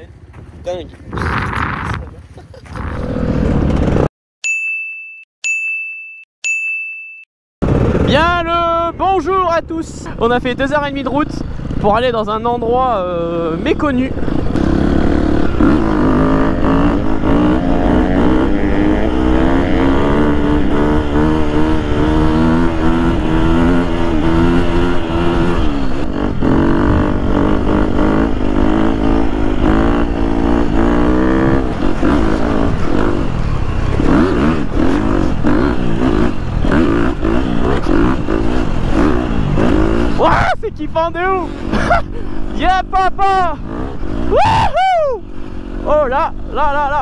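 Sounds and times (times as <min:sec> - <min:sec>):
dirt bike engine revving: 0:02.9 - 0:04.1, 0:07.6 - 0:08.7, 0:10.6 - 0:47.0.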